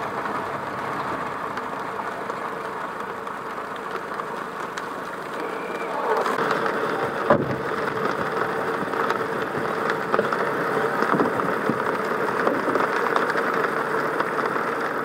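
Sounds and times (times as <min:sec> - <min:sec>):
car engine and road noise: 0:00.0 - 0:15.0
light rain ticks: 0:00.0 - 0:15.0.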